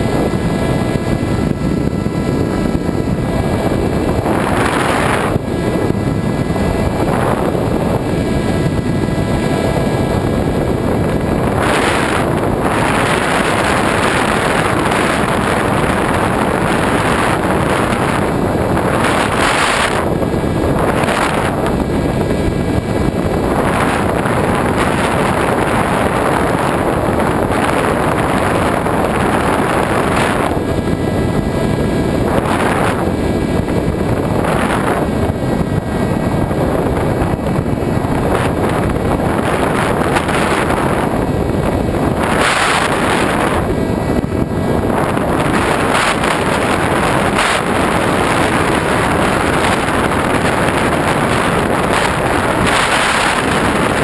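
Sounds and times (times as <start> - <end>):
wind rushing over camera: 0.0 - 54.0.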